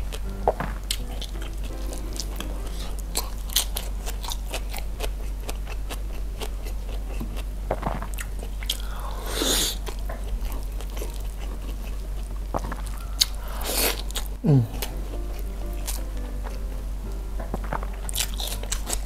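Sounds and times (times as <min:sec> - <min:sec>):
person chewing with mouth clicks: 0:00.0 - 0:16.7, 0:17.5 - 0:19.0.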